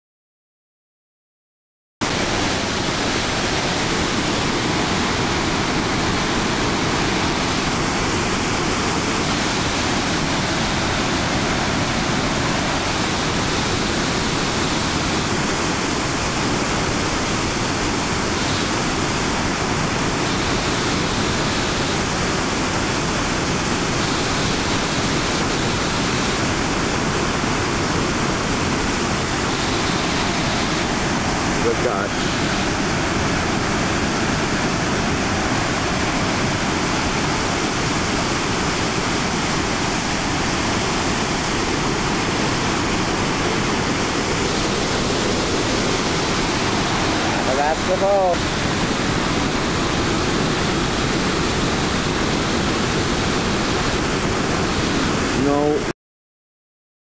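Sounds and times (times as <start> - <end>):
waterfall rushing: 2.0 - 55.9.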